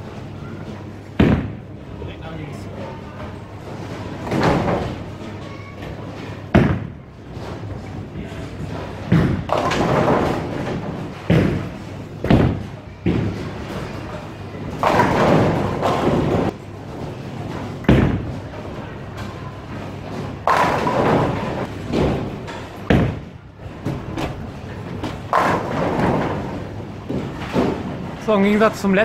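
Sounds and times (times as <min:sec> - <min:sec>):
bowling balls thudding and rolling: 0:00.0 - 0:02.1, 0:02.9 - 0:29.0
bowling pins crashing: 0:03.6 - 0:28.3.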